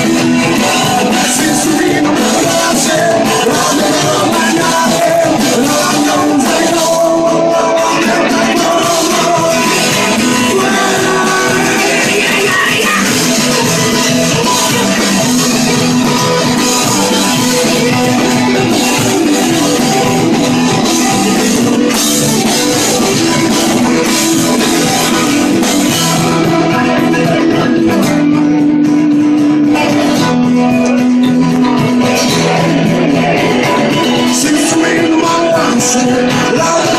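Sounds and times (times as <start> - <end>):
held guitar notes: 0.0 - 36.9
rock band playing: 0.0 - 36.9.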